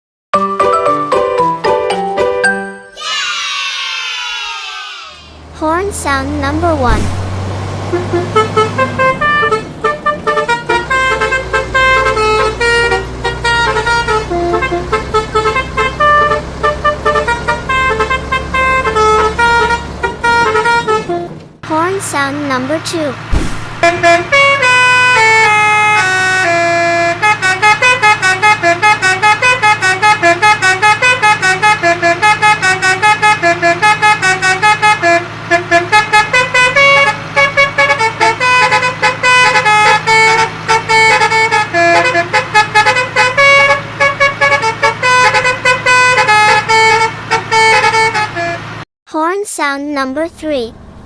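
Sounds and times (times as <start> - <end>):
multi-tone bus horn tune: 5.6 - 48.9.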